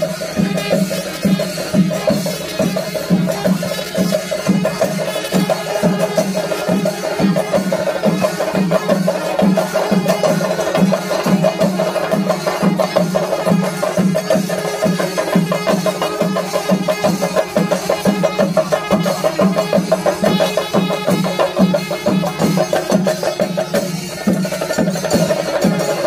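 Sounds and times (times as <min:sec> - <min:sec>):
drums beating: 0:00.0 - 0:26.0.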